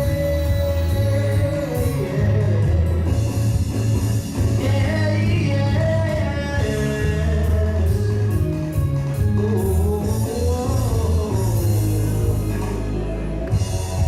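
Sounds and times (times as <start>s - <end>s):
person singing: 0.0s - 3.6s, 4.3s - 14.0s
gospel band playing: 0.0s - 14.0s.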